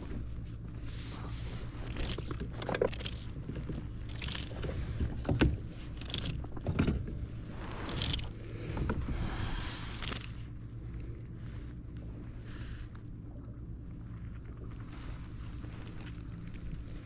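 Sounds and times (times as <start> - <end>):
steady low hum: 0.0 - 17.0
water swishes and splashes: 0.6 - 17.0.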